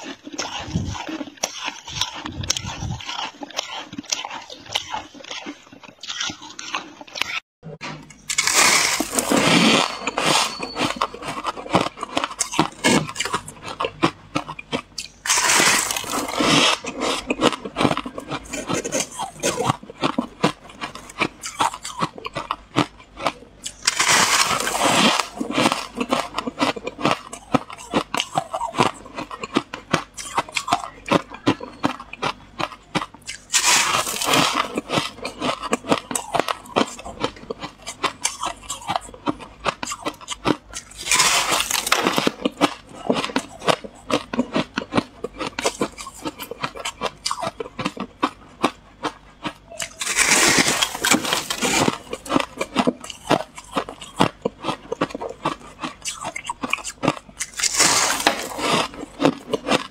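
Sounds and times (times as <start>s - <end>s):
frost being chewed crunching: 0.0s - 59.9s.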